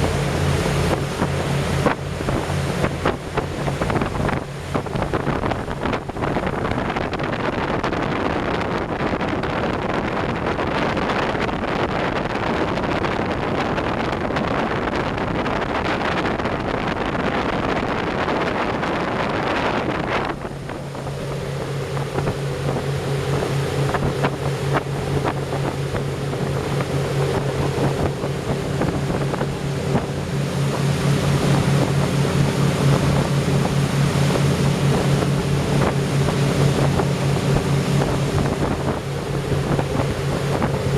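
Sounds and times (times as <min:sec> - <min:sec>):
low engine drone: 0:00.0 - 0:10.5, 0:16.5 - 0:40.9
rushing water: 0:00.0 - 0:40.9
rushing wind: 0:00.0 - 0:40.9.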